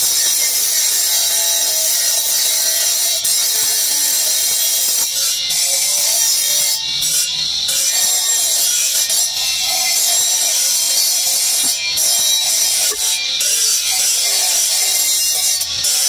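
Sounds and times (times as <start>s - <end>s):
marble grinding on abrasive disc: 0.0s - 16.0s.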